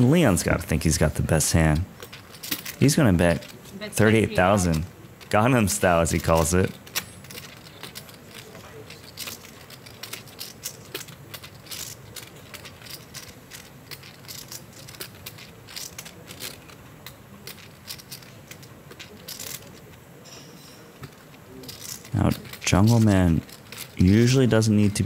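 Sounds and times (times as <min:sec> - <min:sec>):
low room hum: 0:00.0 - 0:25.0
poker chips clicking: 0:00.3 - 0:25.0.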